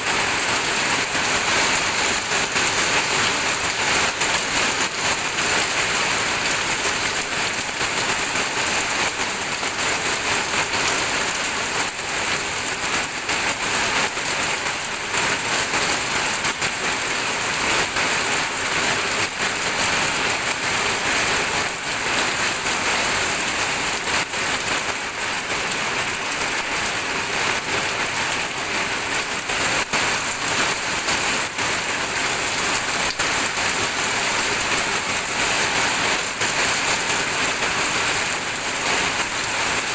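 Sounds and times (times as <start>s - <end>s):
steady rain falling: 0.0s - 39.9s
raindrops pattering: 0.1s - 39.9s.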